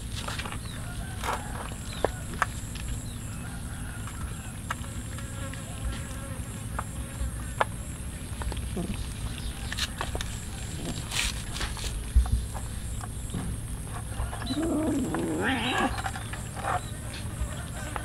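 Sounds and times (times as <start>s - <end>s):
cats chewing and lapping: 0.0s - 18.0s
high insect drone: 0.5s - 18.0s.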